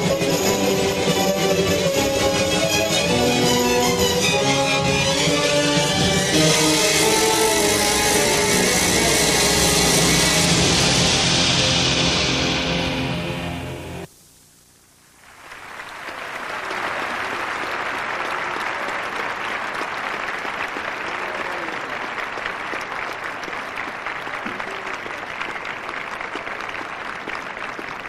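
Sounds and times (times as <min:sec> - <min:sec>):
large audience applauding: 0:00.0 - 0:11.2, 0:15.2 - 0:28.0.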